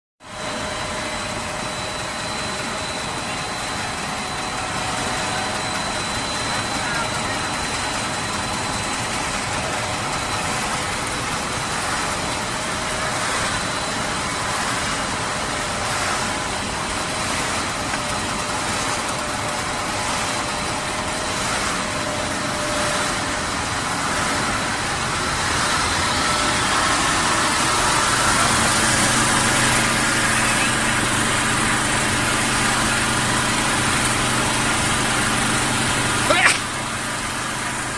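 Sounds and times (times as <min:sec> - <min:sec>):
machinery drone with motor whine: 0:00.2 - 0:37.9.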